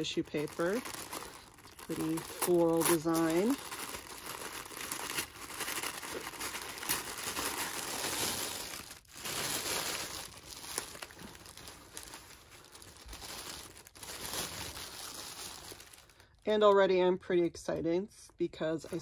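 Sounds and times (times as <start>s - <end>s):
tissue paper crinkling: 0.0s - 16.4s.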